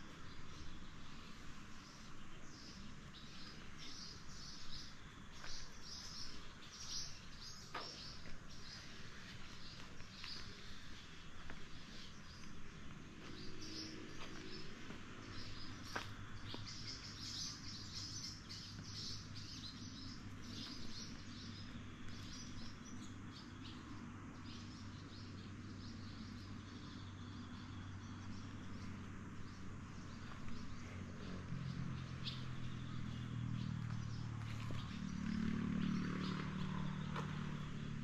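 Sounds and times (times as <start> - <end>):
low steady hum: 0.0 - 38.0
small birds chirping: 0.0 - 38.0.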